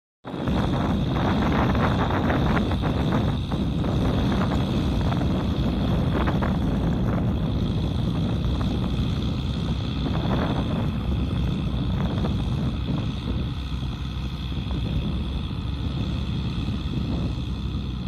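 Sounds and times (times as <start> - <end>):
tractor diesel engine running: 0.2 - 18.0
wind buffeting microphone: 0.3 - 18.0.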